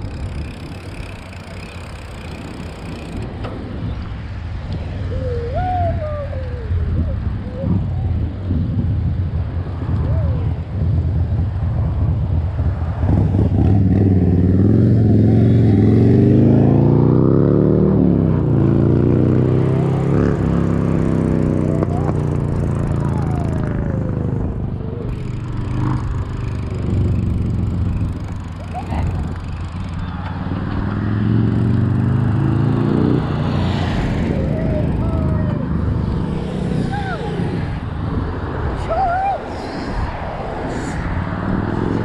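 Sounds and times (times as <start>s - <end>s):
motor vehicle passing: 0.0s - 42.0s
wind rumble on microphone: 2.1s - 42.0s.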